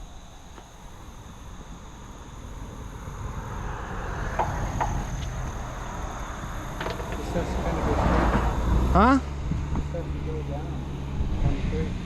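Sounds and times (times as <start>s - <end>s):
distant motor: 0.0s - 12.0s
high insect drone: 0.0s - 12.0s.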